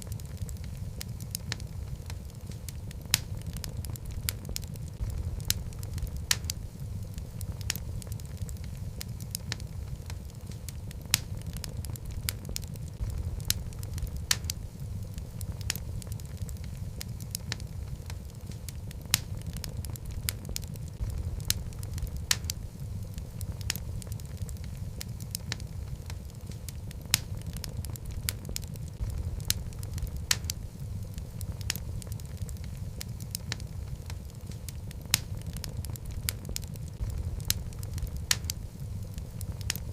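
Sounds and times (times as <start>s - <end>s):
burning wood crackling and popping: 0.0s - 39.9s
low rumble of flame: 0.0s - 39.9s.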